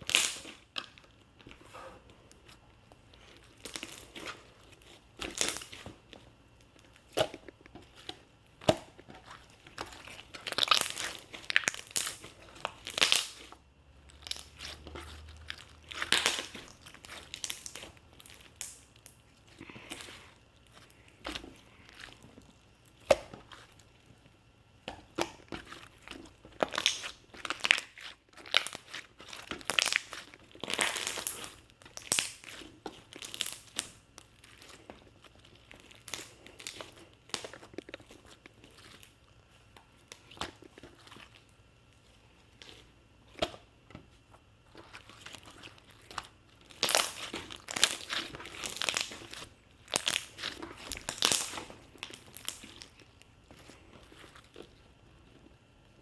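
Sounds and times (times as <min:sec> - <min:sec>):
crinkling and crunching: 0:00.0 - 0:56.0.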